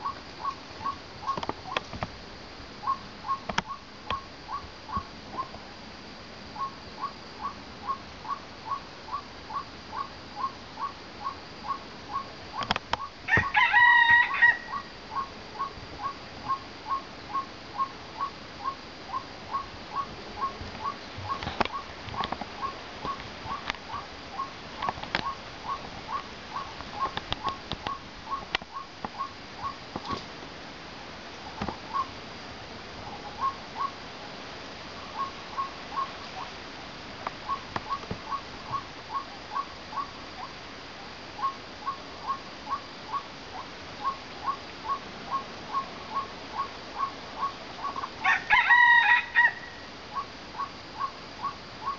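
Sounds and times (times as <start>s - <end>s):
waterhen calling: 0.0s - 1.8s, 2.8s - 5.5s, 6.6s - 30.2s, 31.4s - 32.2s, 33.0s - 36.6s, 37.3s - 40.7s, 41.3s - 51.9s.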